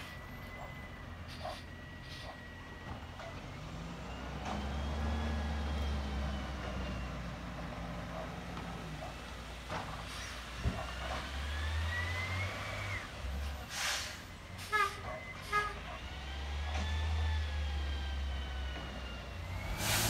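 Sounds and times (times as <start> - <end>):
diesel truck engine idling and revving: 0.0 - 20.0.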